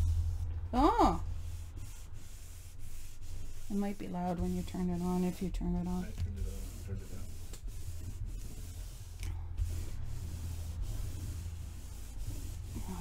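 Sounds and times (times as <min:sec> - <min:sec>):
low steady hum: 0:00.0 - 0:13.0
rubbing on paper: 0:00.0 - 0:13.0.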